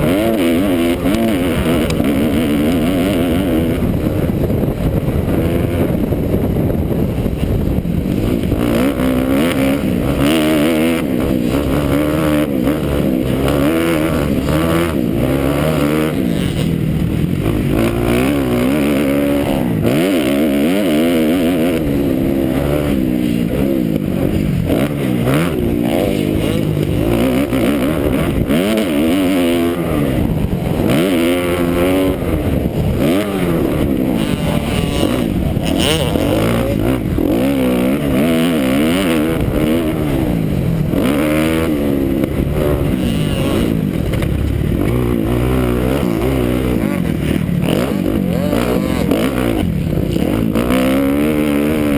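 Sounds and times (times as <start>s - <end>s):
motorcycle engine revving hard: 0.0s - 51.9s.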